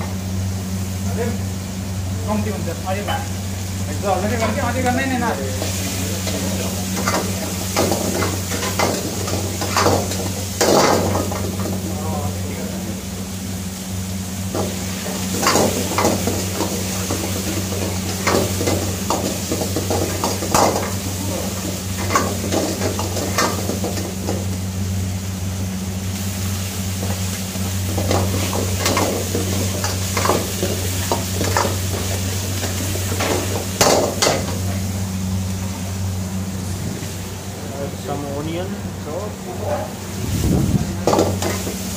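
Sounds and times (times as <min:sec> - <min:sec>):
food sizzling: 0:00.0 - 0:38.2, 0:38.9 - 0:41.9
steady low hum: 0:00.0 - 0:41.9.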